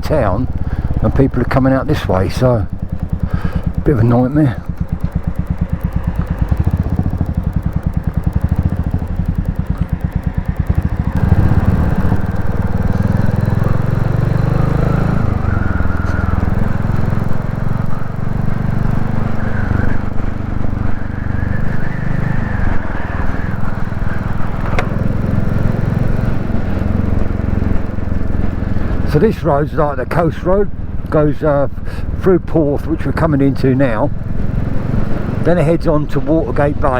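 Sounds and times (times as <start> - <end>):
motorcycle engine running: 0.0 - 36.9
road and wind noise: 0.0 - 36.9.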